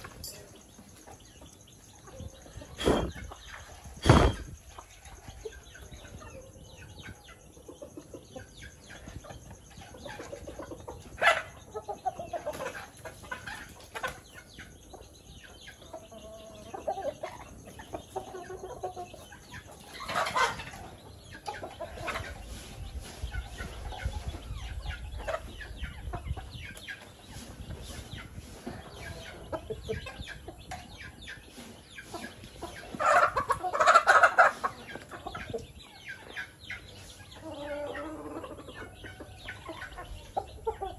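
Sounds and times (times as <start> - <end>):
chickens clucking: 0.0 - 40.9
chickens squawking and flapping: 0.0 - 40.9.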